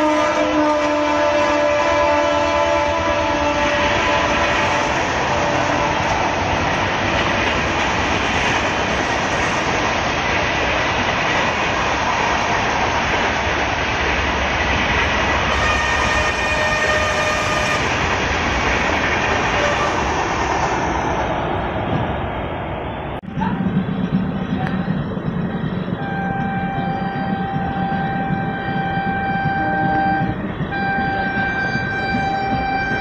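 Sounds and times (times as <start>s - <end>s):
train wheels rushing on rail: 0.0s - 33.0s
clickety-clack over rail joints: 2.6s - 22.2s, 23.2s - 33.0s.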